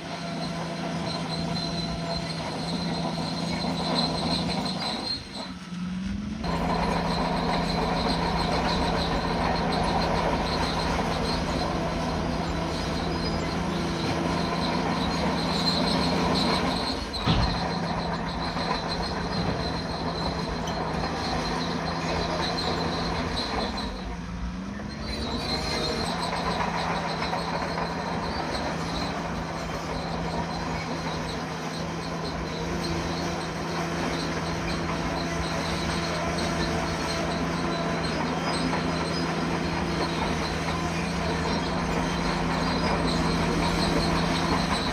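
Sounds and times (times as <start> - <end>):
bulldozer diesel engine running: 0.0 - 44.9
high metallic track squeal: 0.0 - 44.9.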